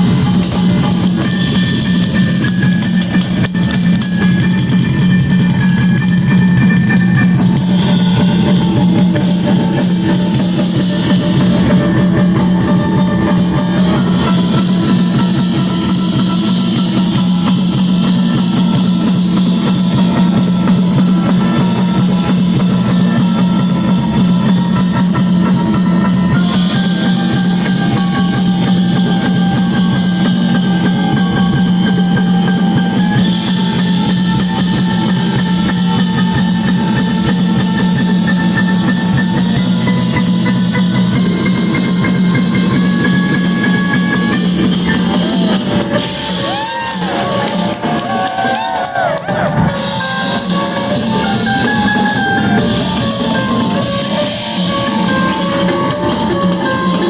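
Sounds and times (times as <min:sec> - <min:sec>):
drum kit: 0:00.0 - 0:57.0.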